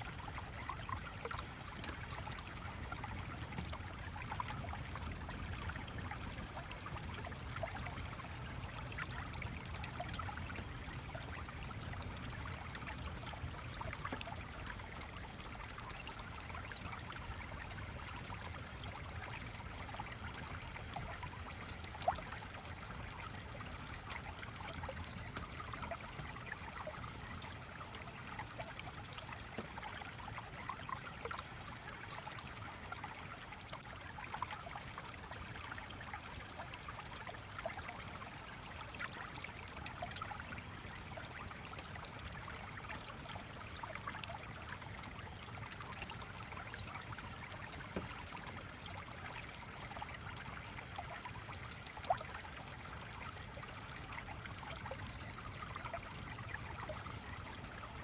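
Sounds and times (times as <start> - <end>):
stream trickling and bubbling: 0.0 - 58.0.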